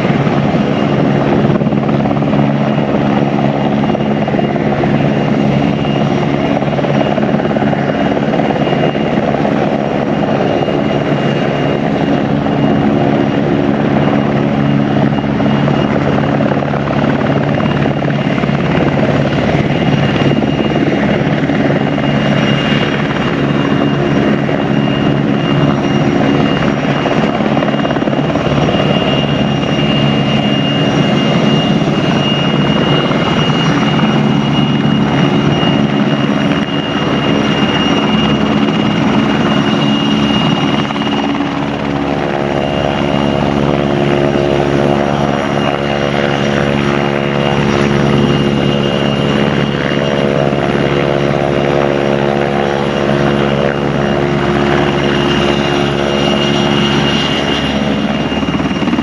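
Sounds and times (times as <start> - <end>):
helicopter rotor beating: 0.0 - 59.0.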